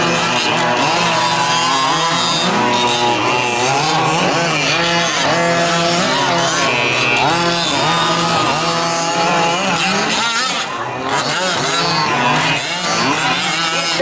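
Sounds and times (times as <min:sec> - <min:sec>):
small two-stroke engines revving: 0:00.0 - 0:14.0.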